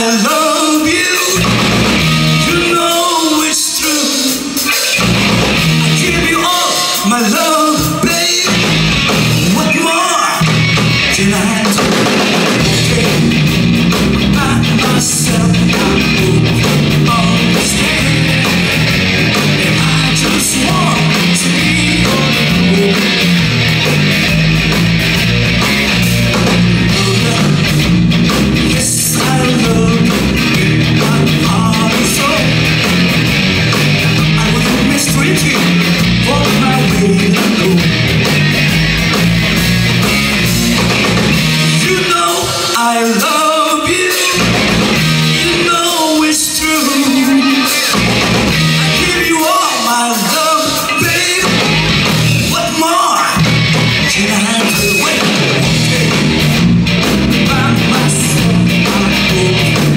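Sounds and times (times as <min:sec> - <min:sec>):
live blues band: 0:00.0 - 0:59.9
wavering electric guitar lead: 0:00.0 - 0:59.9.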